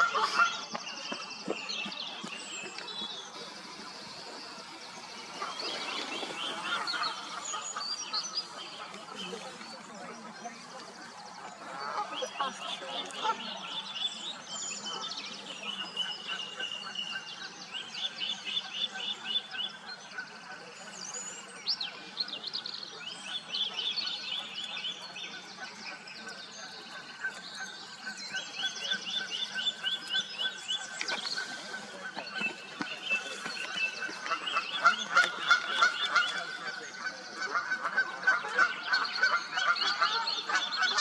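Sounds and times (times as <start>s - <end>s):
songbirds trilling: 0.0s - 41.0s.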